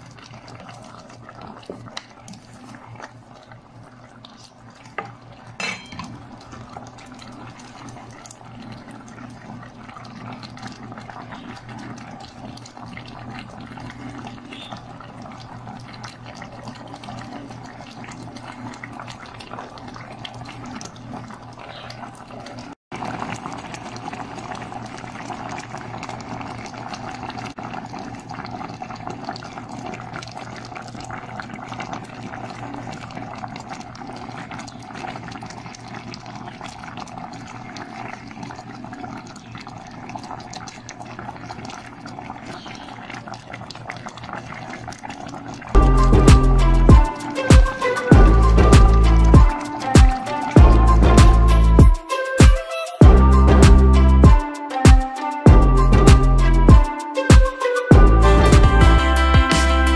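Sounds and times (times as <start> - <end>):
stew bubbling in a pot: 0.0 - 52.0.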